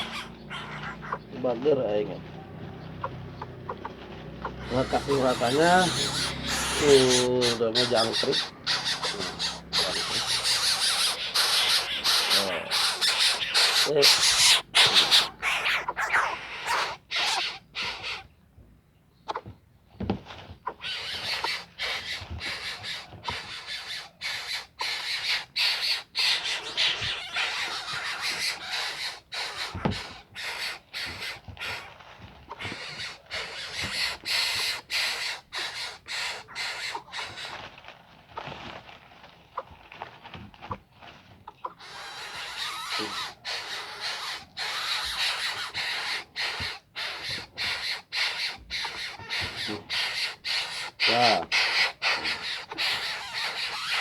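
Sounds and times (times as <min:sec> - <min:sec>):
young bird raspy calls: 0:00.0 - 0:18.4, 0:20.6 - 0:37.8, 0:41.5 - 0:54.0.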